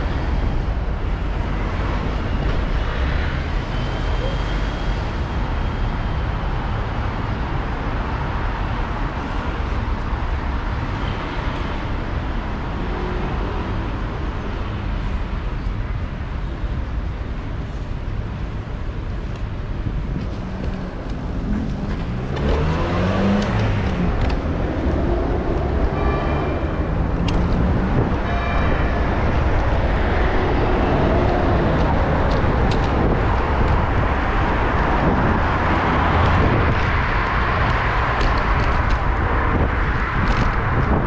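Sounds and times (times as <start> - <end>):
vehicles passing: 0.0 - 41.0.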